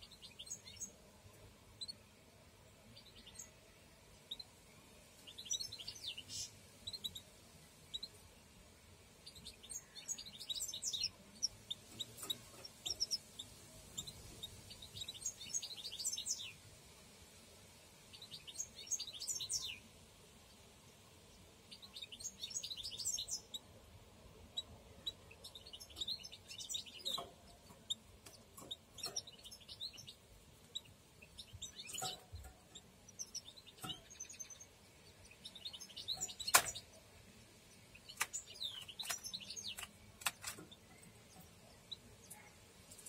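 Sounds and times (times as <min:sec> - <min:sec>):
canaries chirping: 0:00.0 - 0:02.1, 0:02.7 - 0:03.6, 0:04.2 - 0:16.8, 0:18.0 - 0:43.0.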